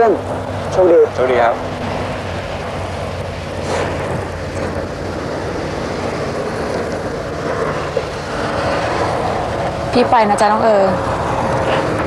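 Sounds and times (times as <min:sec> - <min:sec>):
constant low hum: 0:00.0 - 0:12.0
wind noise on microphone: 0:00.0 - 0:12.0.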